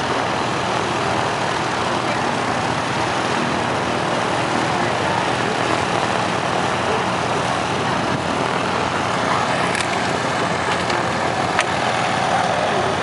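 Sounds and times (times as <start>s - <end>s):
airplane engines running: 0.0s - 13.0s.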